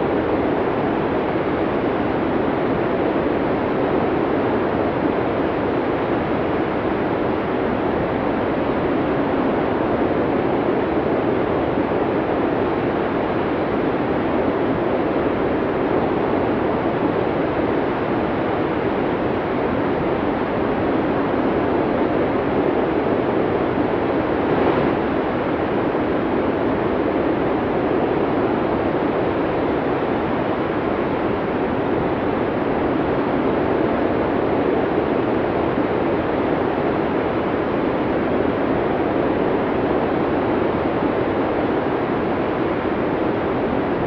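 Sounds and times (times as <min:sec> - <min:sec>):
wind blowing steadily: 0:00.0 - 0:44.0.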